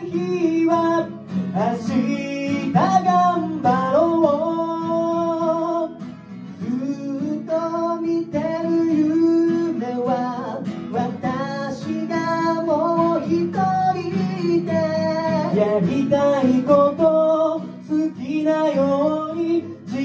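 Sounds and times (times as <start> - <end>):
acoustic guitars strumming: 0.0 - 20.0
men singing pop melody: 0.0 - 20.0.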